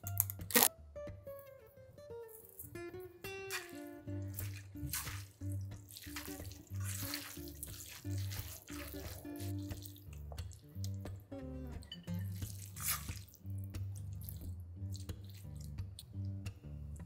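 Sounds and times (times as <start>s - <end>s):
acoustic guitar music: 0.0s - 14.9s
hands squishing noodles: 2.3s - 2.8s, 3.5s - 17.0s.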